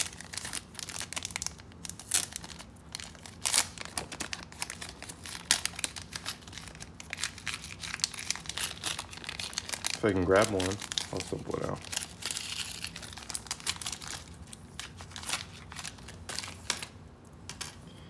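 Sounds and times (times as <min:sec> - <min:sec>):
plastic packet crinkling: 0:00.0 - 0:17.8.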